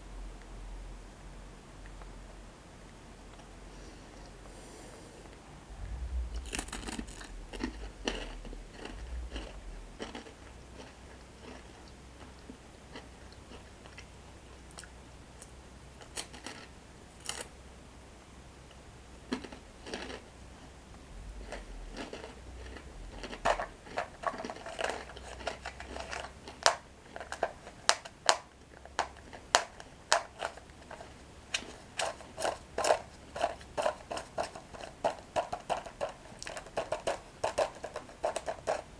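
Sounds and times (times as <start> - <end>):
crunching and chewing breadsticks: 5.2 - 17.5, 18.7 - 38.9.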